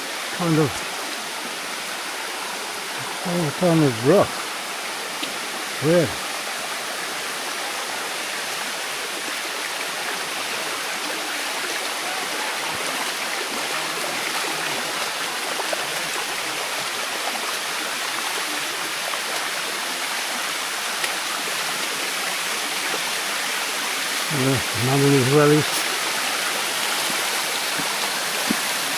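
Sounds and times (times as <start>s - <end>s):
water splashing down waterfall: 0.0s - 28.9s.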